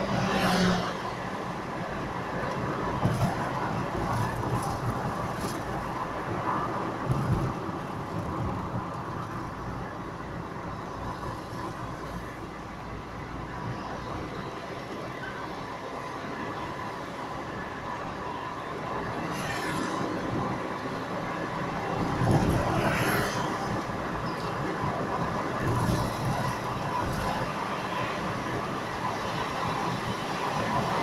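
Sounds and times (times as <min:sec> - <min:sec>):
tyre-on-road noise: 0:00.0 - 0:31.0.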